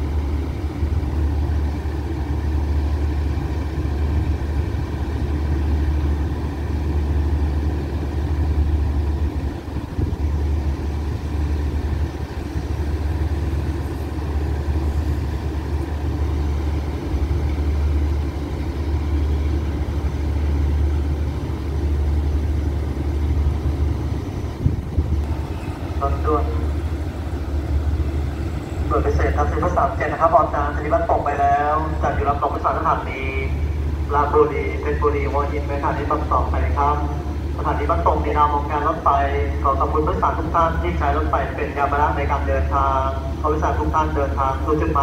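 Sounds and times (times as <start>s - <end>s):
diesel train idling: 0.0s - 45.0s.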